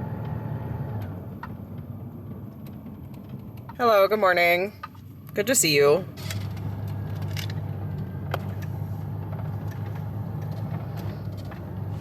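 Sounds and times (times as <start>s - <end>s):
vehicle engine hum inside cabin: 0.0s - 12.0s.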